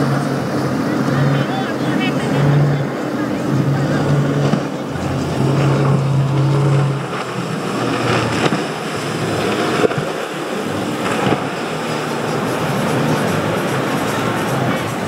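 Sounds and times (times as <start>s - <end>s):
motorboat engine drone: 0.0s - 15.0s
rushing water: 0.0s - 15.0s
wind noise: 0.0s - 15.0s.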